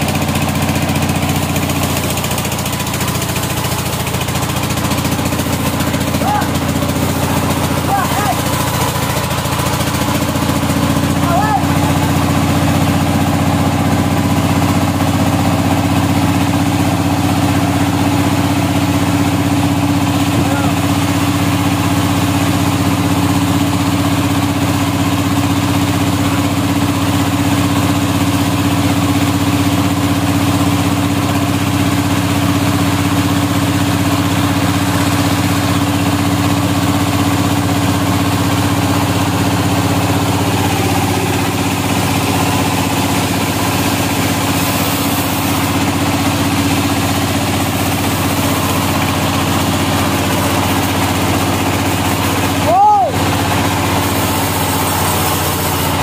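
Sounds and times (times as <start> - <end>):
sawmill drive humming: 0.0 - 28.4, 30.6 - 56.0.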